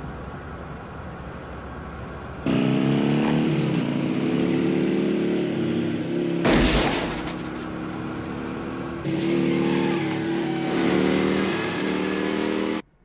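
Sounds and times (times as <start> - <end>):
engine running at high revs: 2.4 - 12.9.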